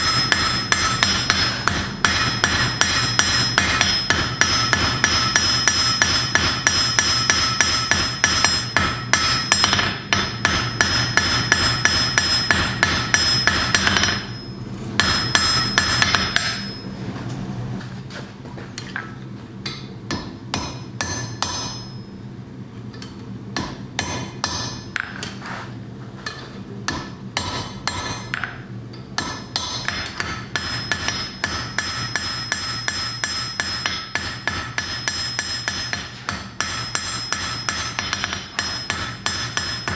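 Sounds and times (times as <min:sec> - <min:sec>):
hammer striking iron on anvil: 0:00.0 - 0:16.9, 0:18.8 - 0:22.1, 0:22.9 - 0:25.4, 0:26.3 - 0:39.9.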